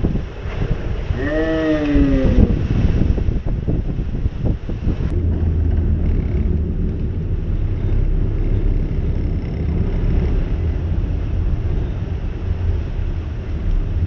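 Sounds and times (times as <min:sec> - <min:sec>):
boat engines rumbling: 0:00.0 - 0:14.0
wind buffeting microphone: 0:00.0 - 0:14.0.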